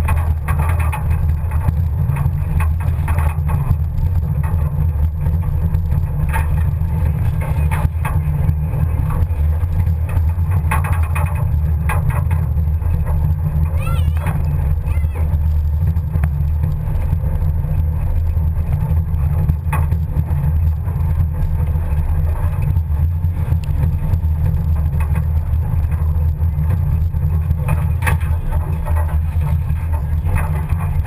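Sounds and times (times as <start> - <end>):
knocks and rattles: 0.0 - 31.0
vehicle engine rumble: 0.0 - 31.0.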